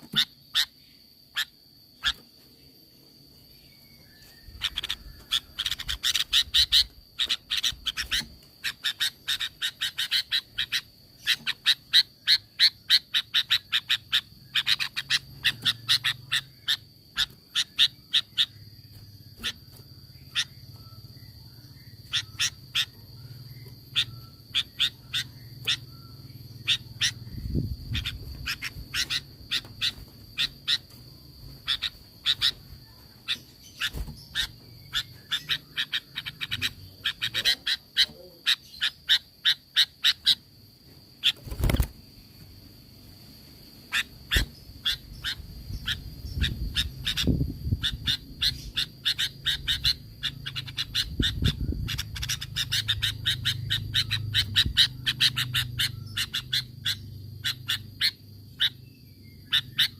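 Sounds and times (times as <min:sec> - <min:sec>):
bird chattering calls: 0:00.0 - 0:02.3, 0:04.3 - 0:40.6, 0:41.2 - 0:42.0, 0:43.8 - 0:59.9.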